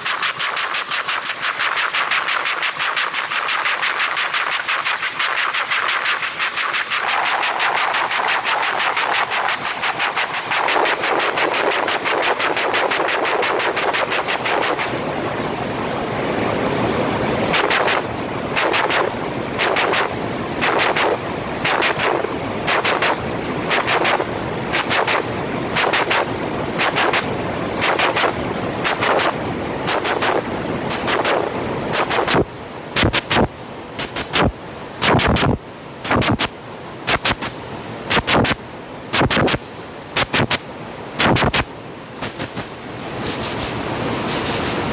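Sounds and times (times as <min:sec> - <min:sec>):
steady hiss: 0:00.0 - 0:44.9
textile machine clattering: 0:00.0 - 0:44.9.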